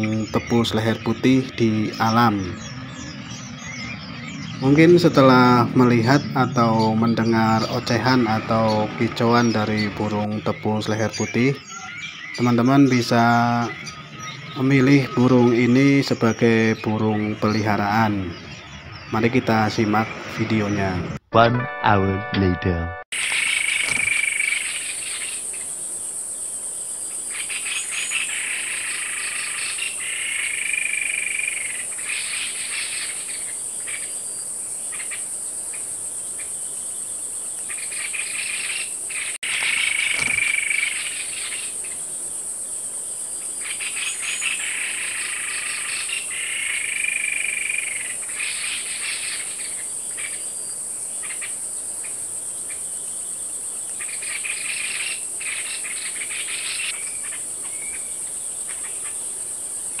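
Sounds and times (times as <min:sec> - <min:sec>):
high-pitched insect drone: 0:00.0 - 0:16.2, 0:23.2 - 1:00.0.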